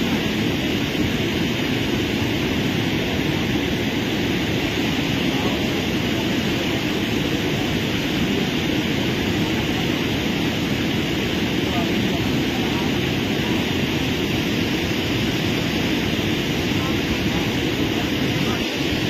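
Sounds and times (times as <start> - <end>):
fast-flowing river roaring: 0.0 - 19.0.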